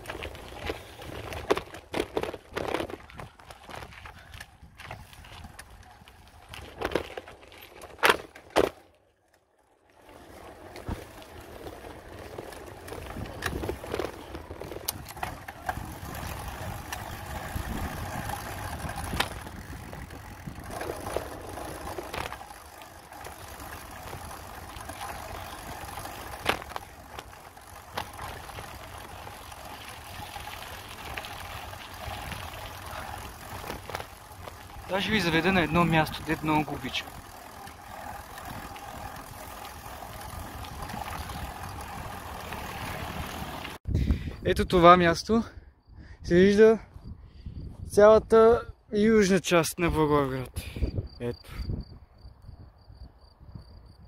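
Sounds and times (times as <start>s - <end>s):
tyres rumbling on rough pavement: 0.0s - 43.9s.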